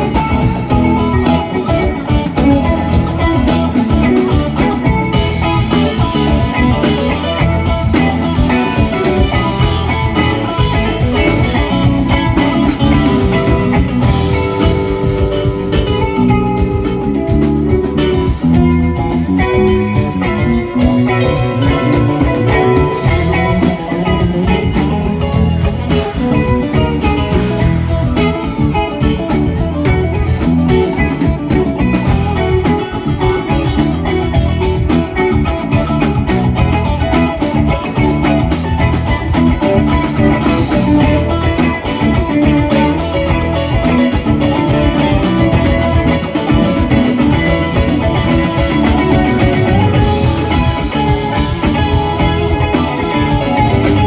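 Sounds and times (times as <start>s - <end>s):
bass guitar: 0.0s - 54.0s
drum kit beat: 0.0s - 54.0s
electric guitar: 0.0s - 54.0s.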